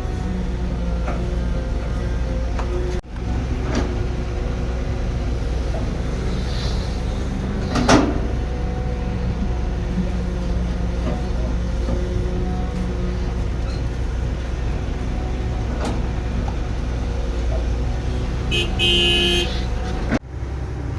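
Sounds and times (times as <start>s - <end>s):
heavy machine engine running: 0.0s - 20.9s.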